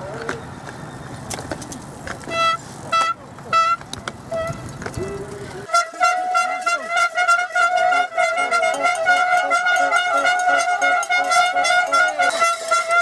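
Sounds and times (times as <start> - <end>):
crowd noise: 0.0 - 13.0
handheld horns tooting: 2.2 - 13.0.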